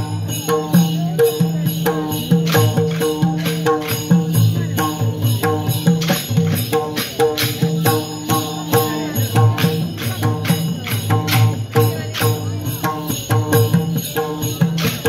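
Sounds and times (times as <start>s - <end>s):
jingling metallic percussion: 0.0s - 15.0s.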